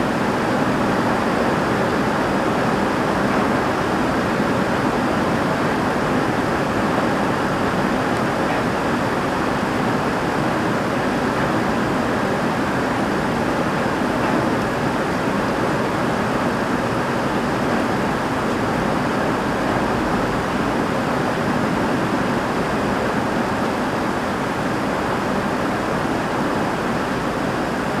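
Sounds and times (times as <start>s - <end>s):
heavy rain on a roof: 0.0s - 28.0s.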